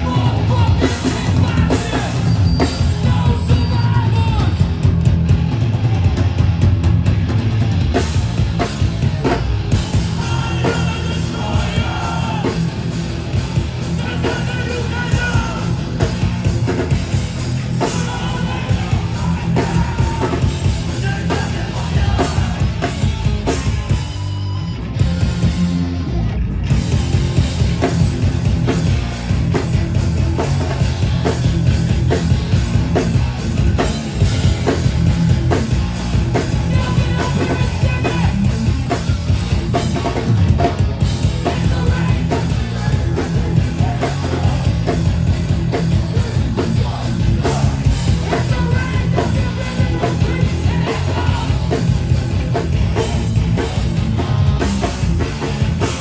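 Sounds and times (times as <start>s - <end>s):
bass guitar: 0.0s - 56.0s
distorted guitars: 0.0s - 56.0s
fast driving drums: 0.0s - 56.0s.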